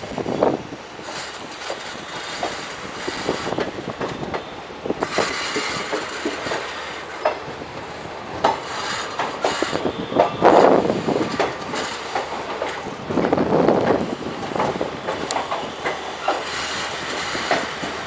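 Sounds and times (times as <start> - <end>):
train wheels clattering on track: 0.0 - 18.0.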